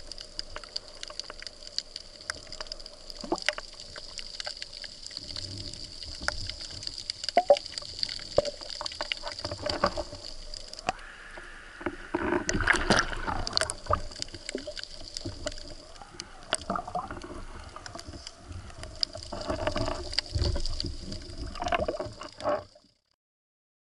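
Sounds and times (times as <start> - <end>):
water splashing: 0.0 - 22.9
water sloshing and gurgling: 0.0 - 23.0.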